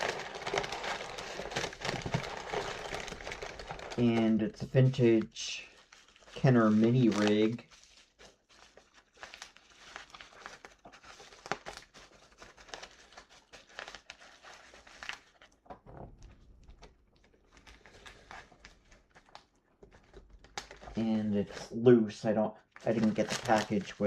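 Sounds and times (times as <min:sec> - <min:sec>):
packaging crinkling: 0:00.0 - 0:21.6, 0:22.8 - 0:24.0.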